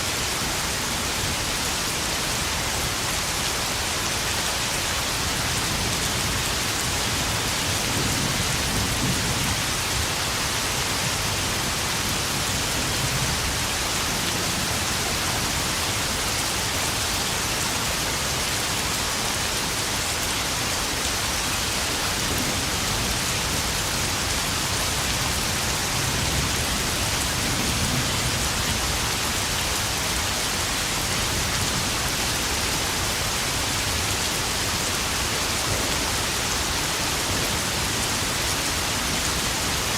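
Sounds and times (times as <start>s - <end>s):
heavy rain on puddles: 0.0s - 39.9s.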